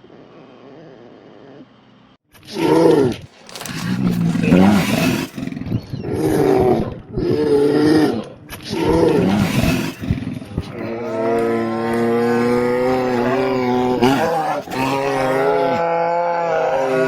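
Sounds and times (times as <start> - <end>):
animal roaring calls: 2.5 - 17.0.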